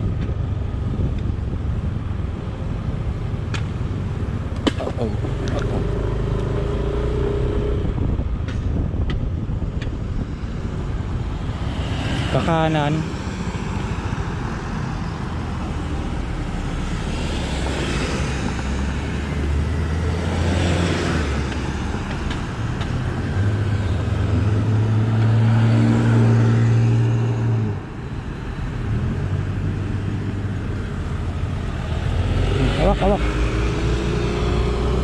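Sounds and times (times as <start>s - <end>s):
car engine: 0.0s - 35.0s
road noise: 0.0s - 35.0s.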